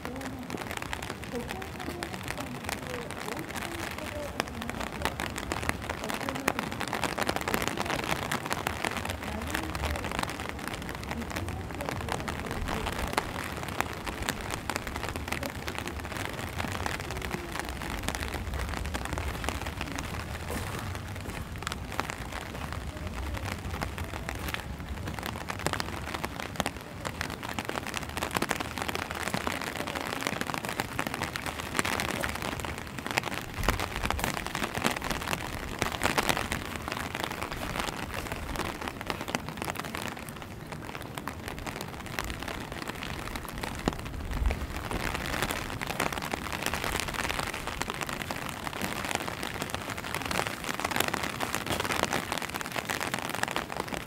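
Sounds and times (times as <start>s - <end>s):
rain falling on leaves: 0.0s - 54.0s
raindrops ticking: 0.0s - 54.0s.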